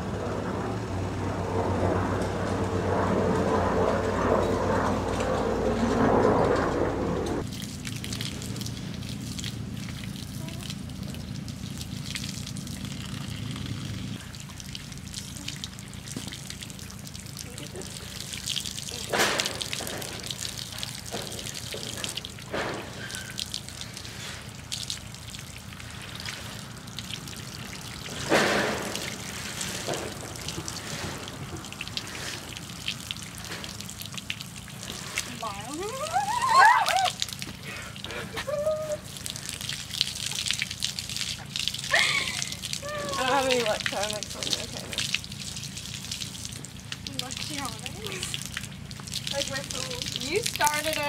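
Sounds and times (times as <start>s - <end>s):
low steady hum: 0.0s - 51.0s
water trickling onto paving stones: 7.4s - 51.0s.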